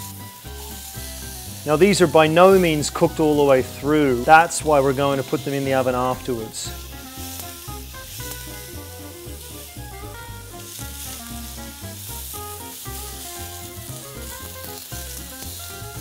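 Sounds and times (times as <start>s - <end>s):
background music with bass line: 0.0s - 16.0s
vegetables sizzling in a grill pan: 0.0s - 16.0s.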